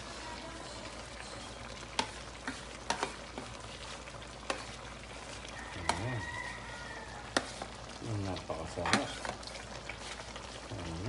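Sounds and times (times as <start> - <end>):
food sizzling in pan: 0.0 - 11.0.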